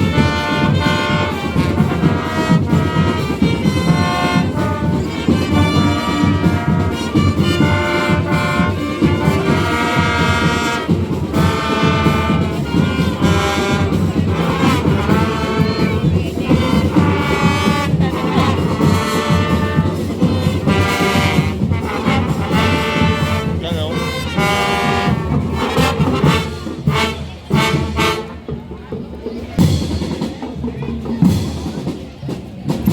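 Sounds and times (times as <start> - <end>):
brass instruments playing a tune: 0.0 - 28.8
steady drumming: 0.0 - 32.9.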